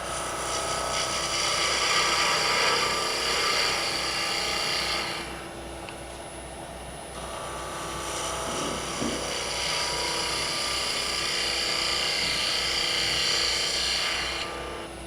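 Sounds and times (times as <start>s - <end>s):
gouge cutting wood: 0.0s - 5.4s, 7.3s - 14.9s
lathe motor humming: 0.0s - 15.0s.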